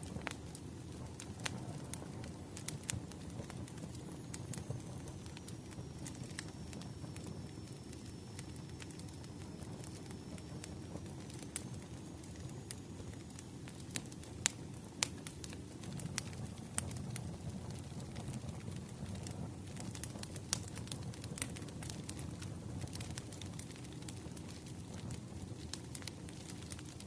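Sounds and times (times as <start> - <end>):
fire crackling and snapping: 0.0 - 27.0
fire flames rumbling: 0.0 - 27.0
loud fire pops: 0.0 - 27.0.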